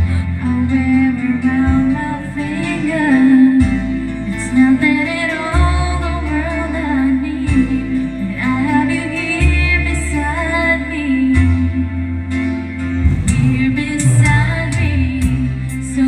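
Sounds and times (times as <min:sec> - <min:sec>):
karaoke backing track: 0:00.0 - 0:16.0
woman singing pop ballad: 0:00.0 - 0:16.0.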